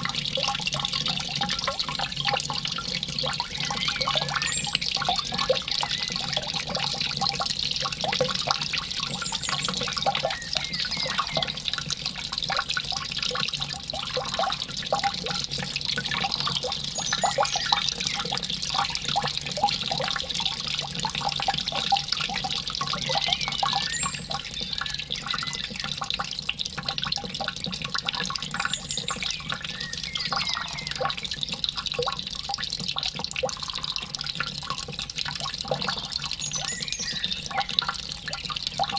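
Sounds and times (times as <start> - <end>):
water trickling and bubbling: 0.0 - 38.9.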